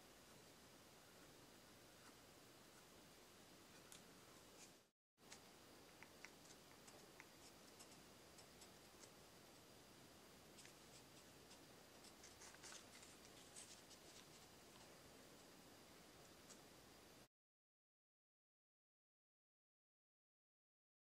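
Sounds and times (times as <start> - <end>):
faint room hiss: 0.0 - 17.3.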